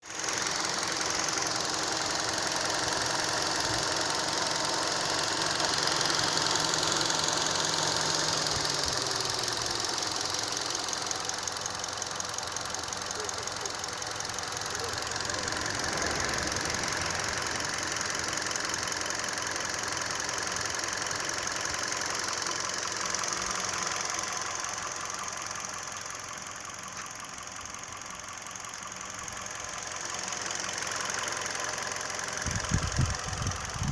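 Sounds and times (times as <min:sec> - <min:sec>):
car engine running: 0:00.0 - 0:33.9
engine knocking: 0:00.0 - 0:33.9.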